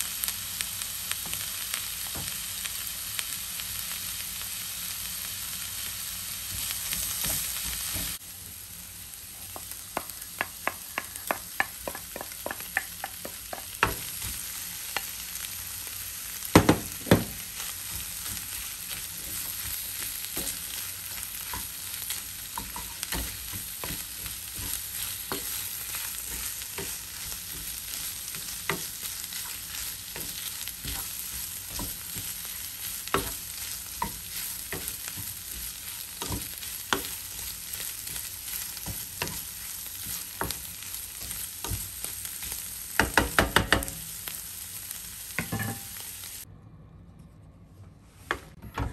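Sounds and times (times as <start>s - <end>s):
food sizzling in a frying pan: 0.0s - 46.5s.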